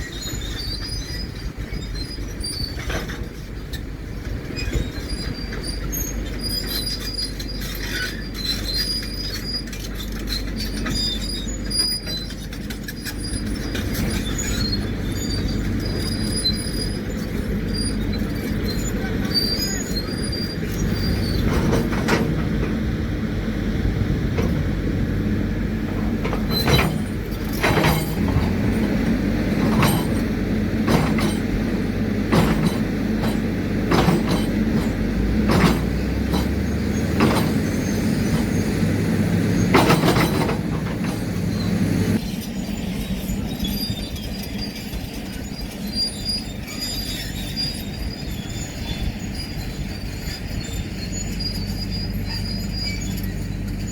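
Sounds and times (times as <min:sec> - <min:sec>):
diesel engine droning: 0:00.0 - 0:53.9
steel tracks squealing and clanking: 0:00.0 - 0:53.9.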